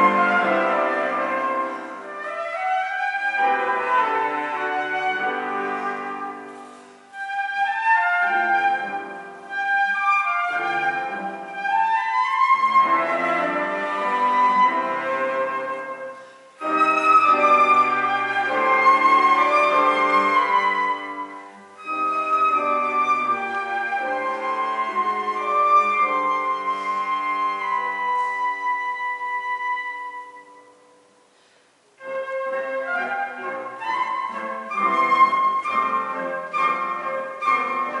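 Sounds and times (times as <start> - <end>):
flute cello and piano chamber music: 0.0 - 31.1, 31.9 - 38.0.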